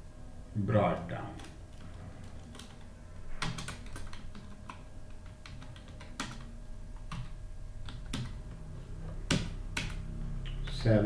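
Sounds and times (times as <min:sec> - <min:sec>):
computer keyboard typing: 0:01.2 - 0:08.6, 0:09.2 - 0:10.9.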